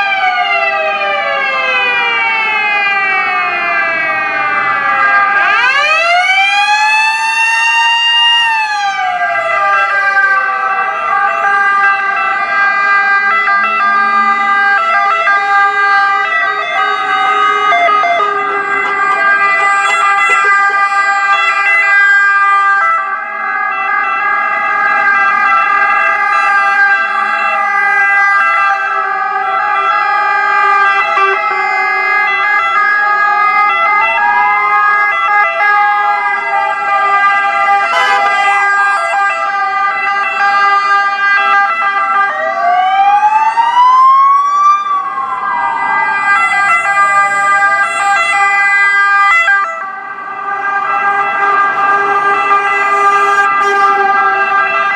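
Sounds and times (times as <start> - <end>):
ambulance sirens steady tones: 0.0 - 54.9
wailing siren: 0.0 - 54.9.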